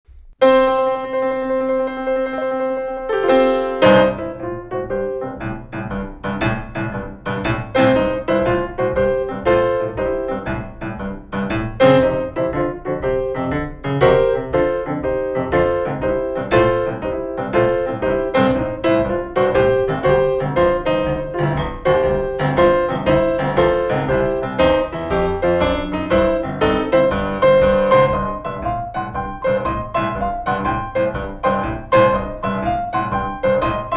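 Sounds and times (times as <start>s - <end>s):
boogie-woogie piano: 0.4s - 33.9s.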